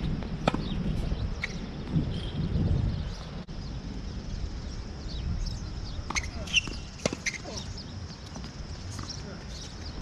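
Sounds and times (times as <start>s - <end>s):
birds chirping: 0.0s - 10.0s
wind rumbling on microphone: 0.0s - 10.0s.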